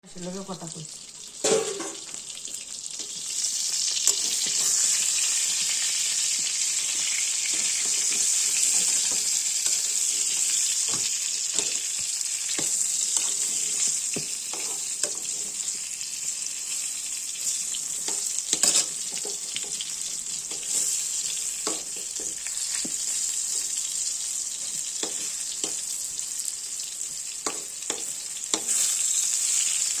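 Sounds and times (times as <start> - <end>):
eggplant sizzling in oil: 0.1 - 30.0.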